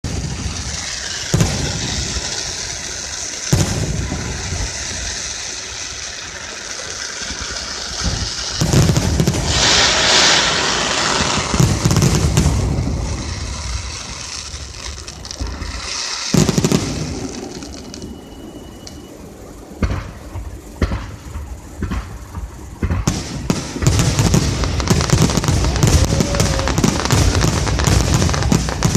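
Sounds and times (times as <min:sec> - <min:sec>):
booming firework bursts: 0:00.0 - 0:28.9
crackling and hissing fireworks: 0:00.0 - 0:28.9.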